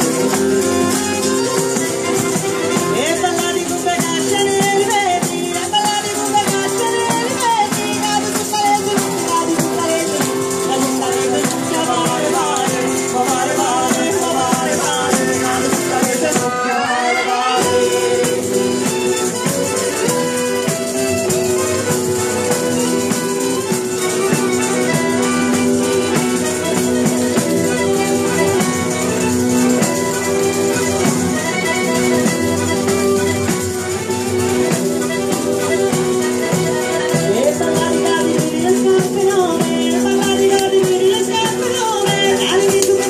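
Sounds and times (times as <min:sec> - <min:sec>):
frame drums with jingles: 0:00.0 - 0:16.9, 0:17.5 - 0:43.0
accordion chords: 0:00.0 - 0:43.0
guitar: 0:00.0 - 0:43.0.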